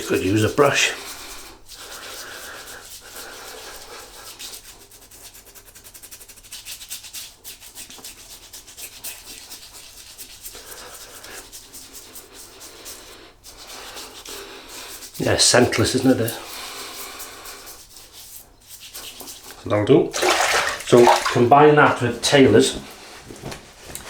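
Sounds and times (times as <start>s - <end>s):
hands rubbing wet face: 0.0s - 24.0s.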